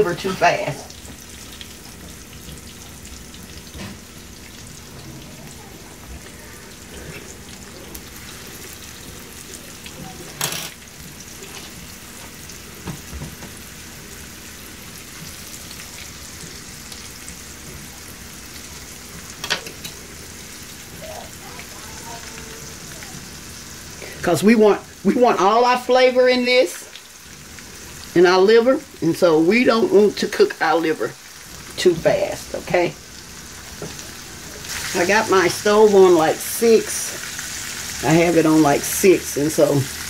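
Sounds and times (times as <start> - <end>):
liver sizzling in oil: 0.0 - 40.0.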